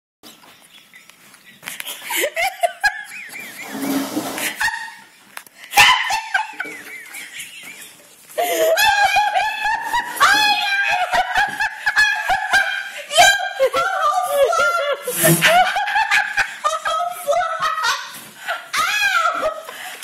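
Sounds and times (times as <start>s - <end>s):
hearty human laughter: 1.6s - 20.0s.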